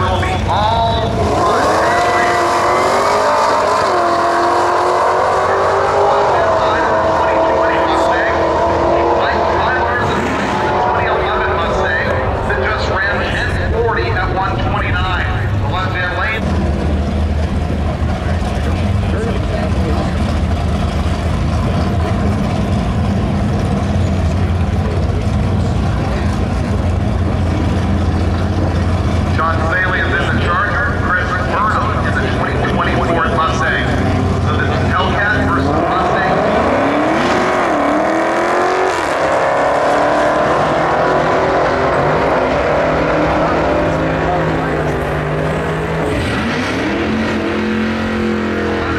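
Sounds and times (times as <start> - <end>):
car engines idling: 0.0 - 48.9.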